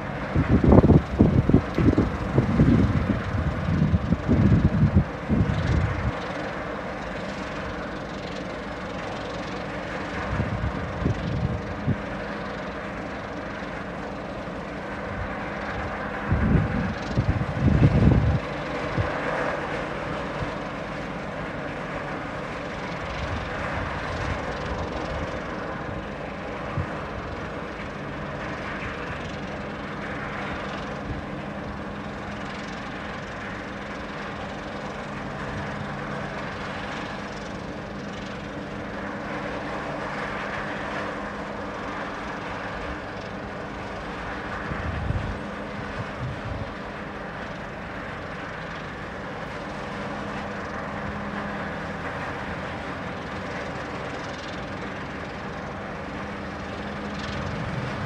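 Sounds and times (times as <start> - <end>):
ship engines droning: 0.0 - 58.0.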